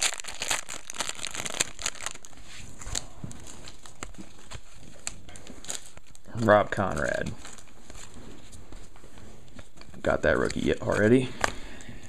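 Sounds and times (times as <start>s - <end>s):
card packs crinkling and rustling: 0.0s - 11.6s.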